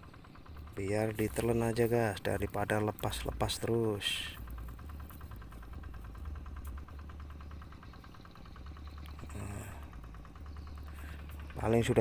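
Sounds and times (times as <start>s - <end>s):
low engine-like hum with rattle: 0.0s - 12.0s.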